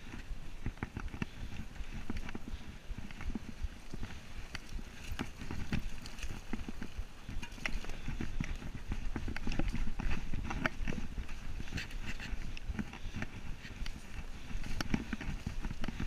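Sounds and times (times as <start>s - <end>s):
bike tyres on dirt: 0.0s - 16.0s.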